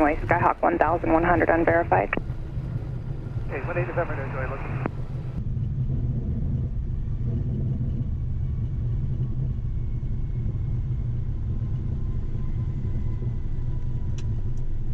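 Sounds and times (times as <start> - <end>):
faint high whine: 0.0 - 14.9
jet cockpit low rumble: 0.0 - 14.9.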